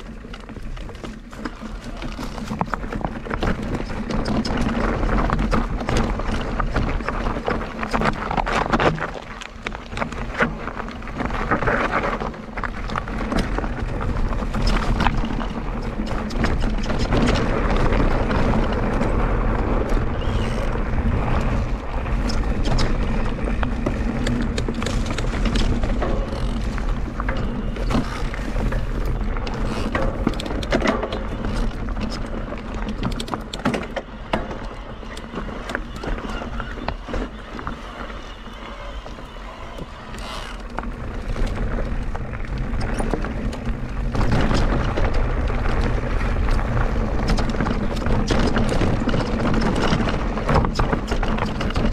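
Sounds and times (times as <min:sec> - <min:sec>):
bike chain and frame rattling: 0:00.0 - 0:51.9
tyres crunching over rocks: 0:00.0 - 0:51.9
wind rumble on microphone: 0:00.0 - 0:51.9.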